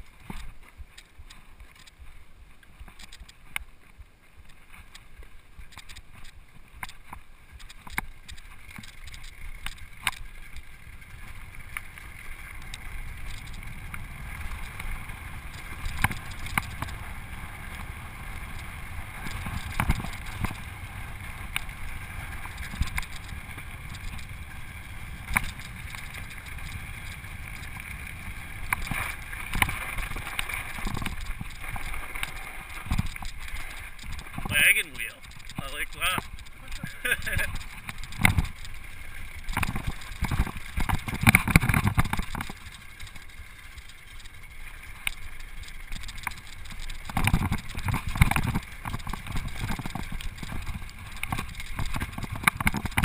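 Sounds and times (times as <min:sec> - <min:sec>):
bike rattling over bumps: 0:00.0 - 0:53.0
tyres rolling over gravel: 0:04.3 - 0:53.0.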